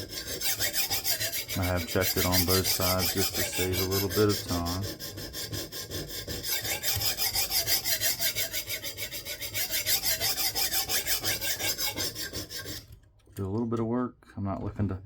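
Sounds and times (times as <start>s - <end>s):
sharpening stone rasping on knife: 0.0s - 12.9s.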